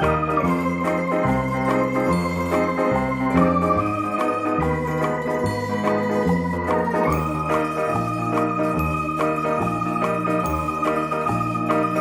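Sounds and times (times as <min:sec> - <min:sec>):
electronic keyboard tune: 0:00.0 - 0:12.0.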